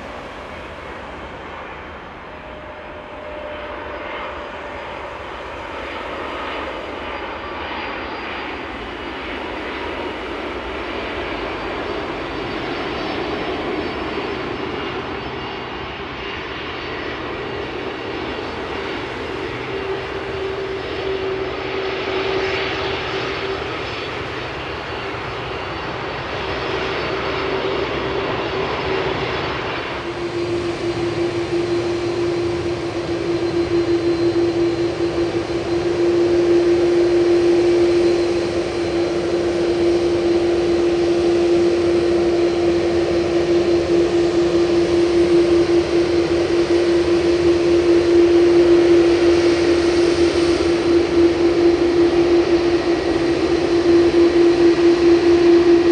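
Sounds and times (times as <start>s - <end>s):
jet engine drone with whine: 0.0s - 55.9s.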